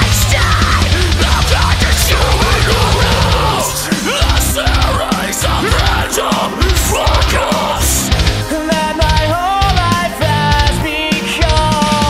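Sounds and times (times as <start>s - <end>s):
heavy rock band: 0.0s - 12.0s
pounding drums: 0.0s - 12.0s.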